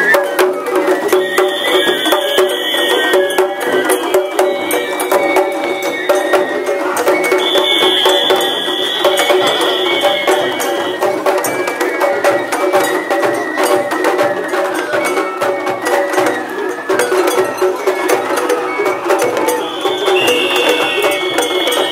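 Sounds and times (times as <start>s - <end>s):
festival drum and gong music: 0.0s - 21.9s.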